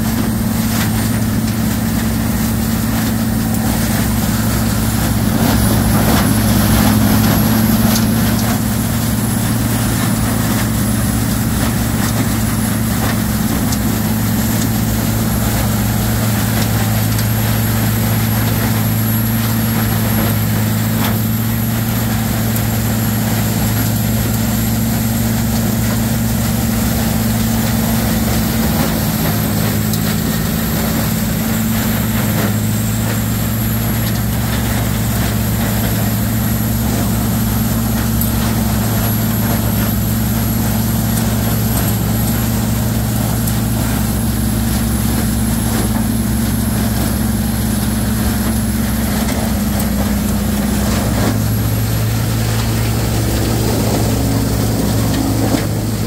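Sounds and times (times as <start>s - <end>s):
wood grinder diesel engine droning: 0.0s - 56.0s.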